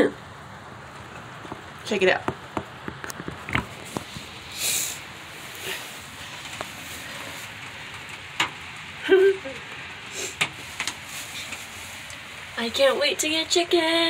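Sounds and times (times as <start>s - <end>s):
heavy rain on wood: 0.0s - 14.0s.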